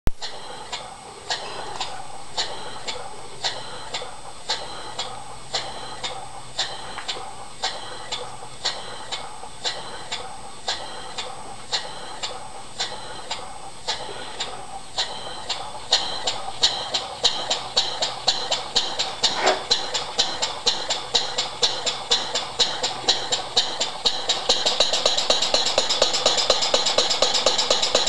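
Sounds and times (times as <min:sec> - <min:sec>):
model steam engine running: 0:00.2 - 0:28.0.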